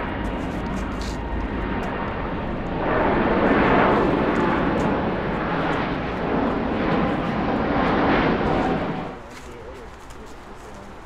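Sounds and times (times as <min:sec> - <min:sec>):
jet aircraft roar: 0:00.0 - 0:11.0.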